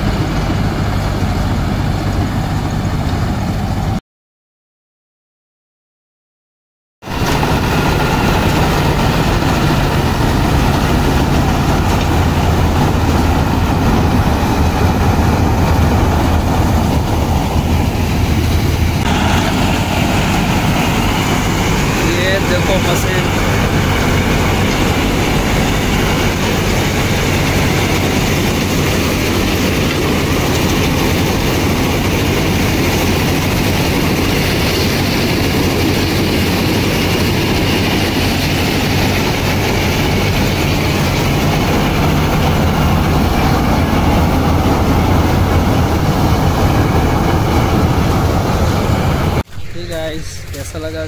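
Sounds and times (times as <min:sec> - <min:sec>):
low engine drone: 0:00.0 - 0:04.0, 0:07.0 - 0:51.0
threshing machinery rattle: 0:07.1 - 0:50.8.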